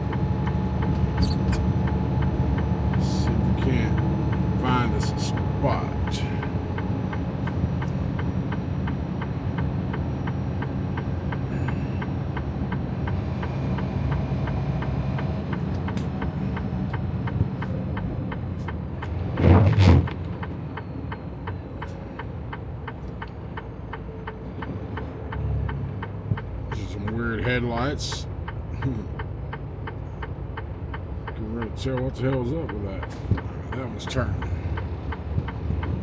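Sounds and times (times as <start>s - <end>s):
diesel engine drone: 0.0s - 36.0s.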